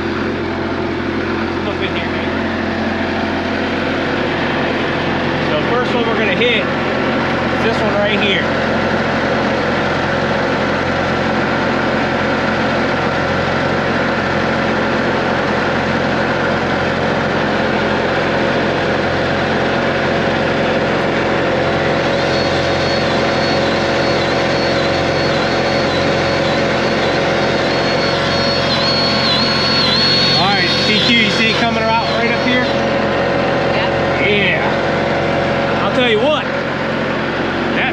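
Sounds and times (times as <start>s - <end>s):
diesel engine idling: 0.0s - 37.9s
faint high wavering whine: 0.0s - 37.9s.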